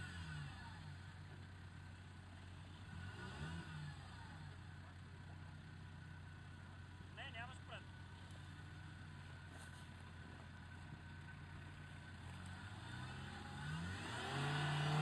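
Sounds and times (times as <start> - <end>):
off-road engine idling and revving: 0.0 - 15.0.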